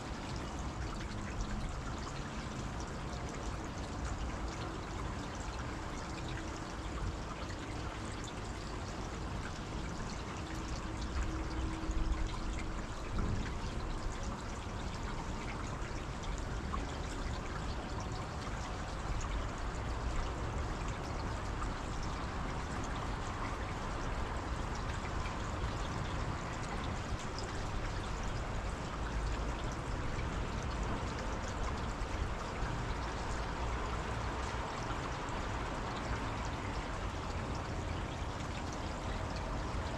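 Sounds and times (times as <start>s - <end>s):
faint steady hum: 0.0s - 39.9s
water rushing: 0.0s - 39.9s.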